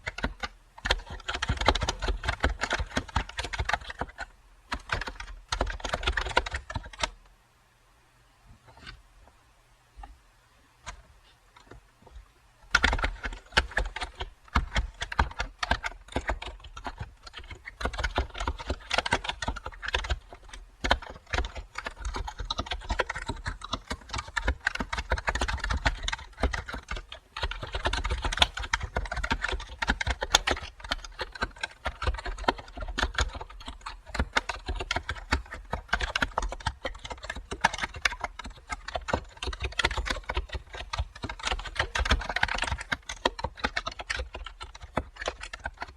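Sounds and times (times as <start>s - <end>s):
computer keyboard key clicks: 0.0s - 7.2s, 11.6s - 45.9s.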